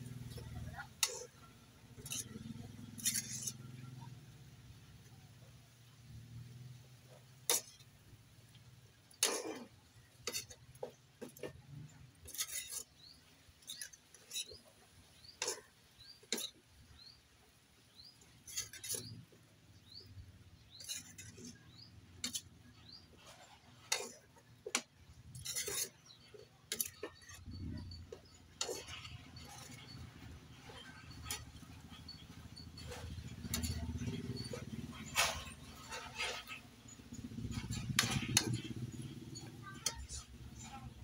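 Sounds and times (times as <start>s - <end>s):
metal spatula scraping wok: 0.0s - 5.5s, 6.4s - 17.2s, 17.8s - 41.0s.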